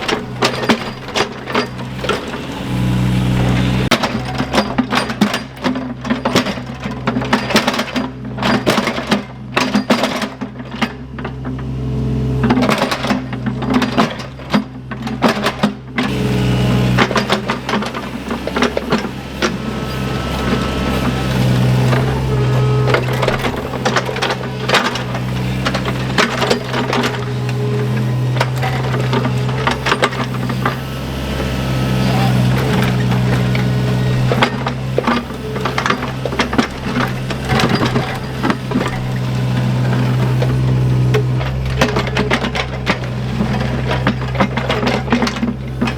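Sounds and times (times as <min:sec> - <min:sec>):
digger engine running: 0:00.0 - 0:45.9.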